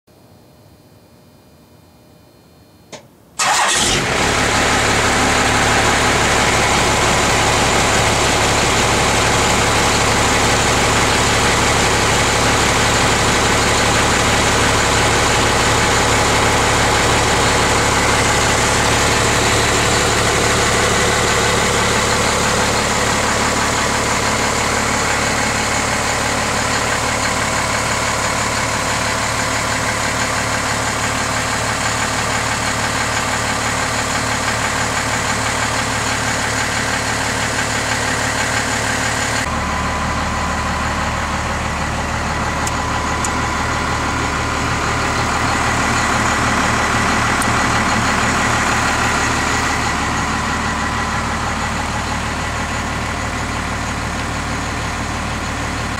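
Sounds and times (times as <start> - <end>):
diesel engine starting and idling: 3.0 - 55.9.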